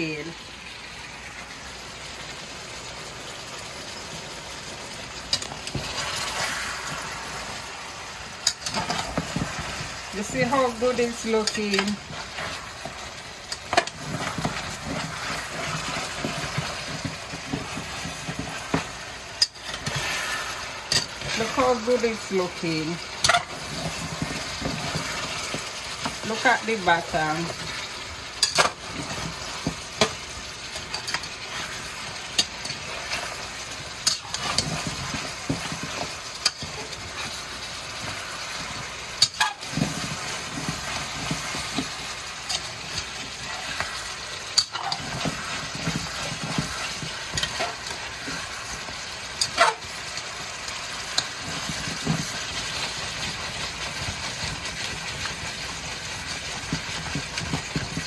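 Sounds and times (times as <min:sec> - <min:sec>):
meat sizzling in a pan: 0:00.0 - 0:58.0.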